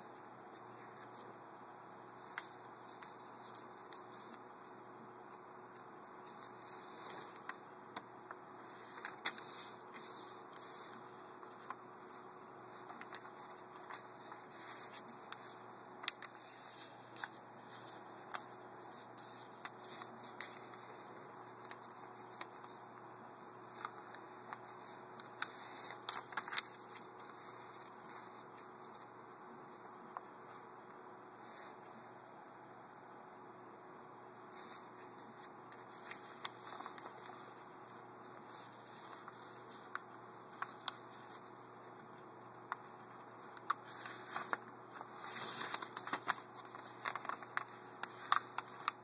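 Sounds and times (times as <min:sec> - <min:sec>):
steady background hiss: 0:00.0 - 0:49.0
paper rustling and scraping: 0:02.1 - 0:04.7, 0:06.2 - 0:29.8, 0:34.5 - 0:41.5, 0:42.7 - 0:49.0.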